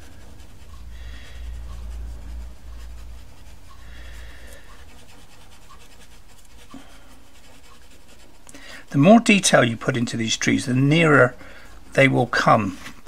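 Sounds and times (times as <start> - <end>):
pencil scratching on paper: 0.0 - 11.0
low steady hum: 0.0 - 13.0.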